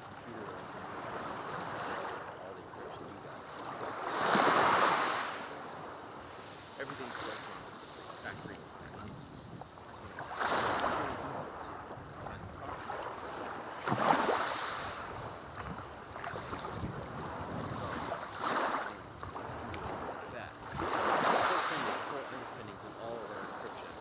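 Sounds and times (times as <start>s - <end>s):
sea waves washing on beach: 0.0s - 24.0s.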